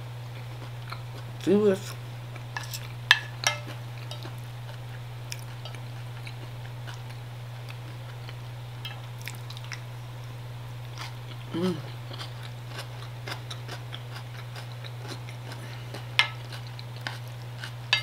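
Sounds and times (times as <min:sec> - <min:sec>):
person chewing: 0:00.3 - 0:09.9, 0:10.8 - 0:18.0.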